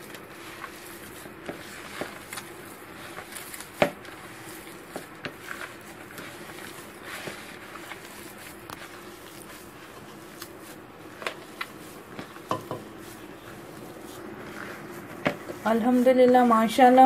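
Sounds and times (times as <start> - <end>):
hand mashing potato in bowl: 0.0 - 17.0.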